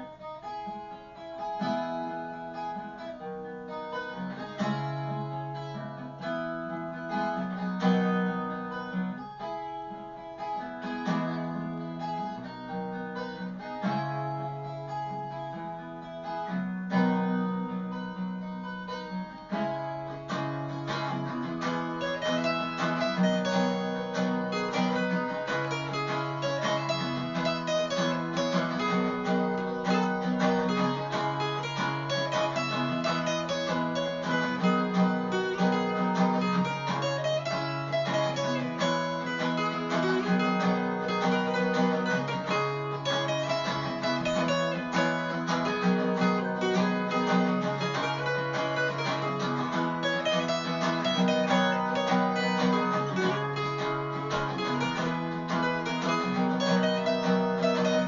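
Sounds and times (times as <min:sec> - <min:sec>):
acoustic guitar strummed: 0:00.0 - 0:58.0.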